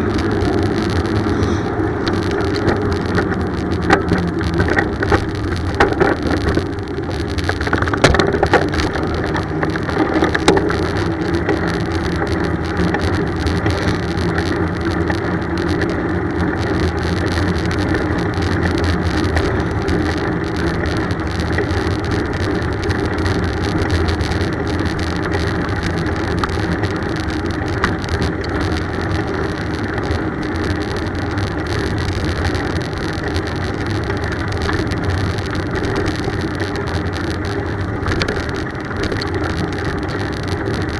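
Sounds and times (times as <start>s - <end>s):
bicycle road rumble: 0.0s - 40.9s
wind noise: 0.0s - 40.9s.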